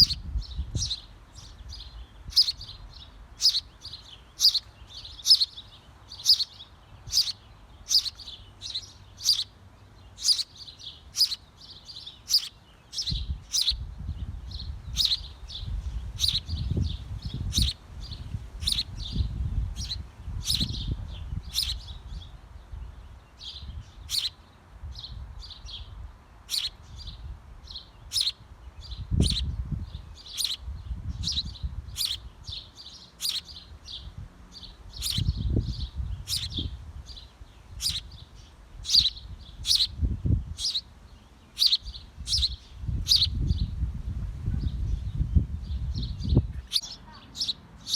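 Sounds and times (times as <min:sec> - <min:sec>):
small bird chirping: 0:00.0 - 0:43.8, 0:44.5 - 0:47.9.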